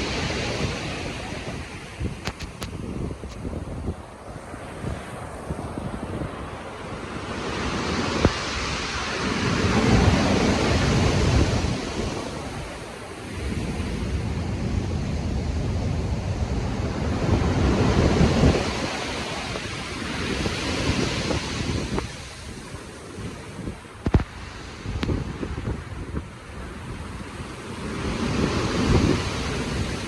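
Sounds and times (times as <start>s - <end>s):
ocean waves breaking: 0.0s - 30.0s
wind: 0.0s - 30.0s.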